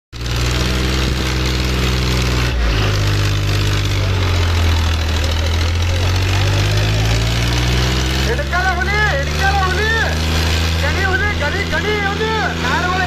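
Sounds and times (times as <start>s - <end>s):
tractor diesel engine under load: 0.1s - 13.0s.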